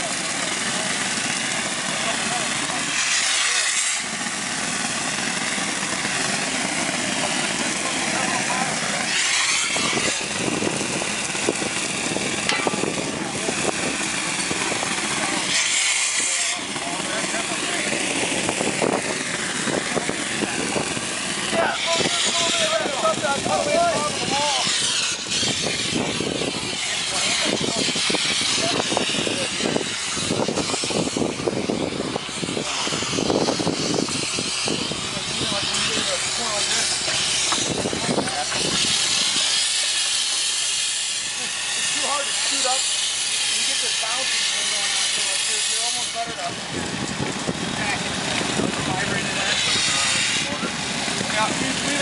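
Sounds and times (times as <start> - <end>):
concrete spraying hiss: 0.0 - 52.0
engine running: 0.0 - 52.0.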